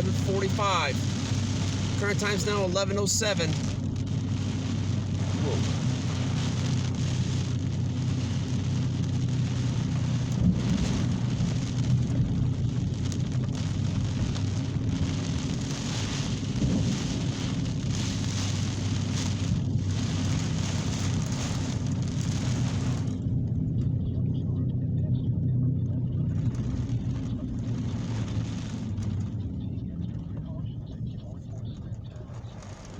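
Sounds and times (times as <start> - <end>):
heavy rain pouring: 0.0 - 32.9
low thunder rumble: 0.0 - 32.9.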